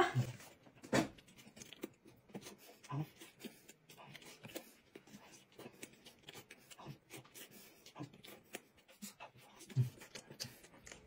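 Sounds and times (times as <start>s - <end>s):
faint chewing and mouth clicks: 0.2s - 11.0s.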